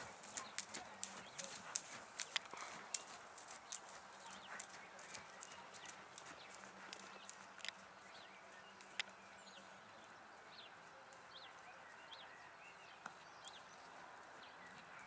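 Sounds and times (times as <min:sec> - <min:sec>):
bird chirping: 0:00.0 - 0:15.0
horse hooves cantering on sand: 0:00.0 - 0:15.0.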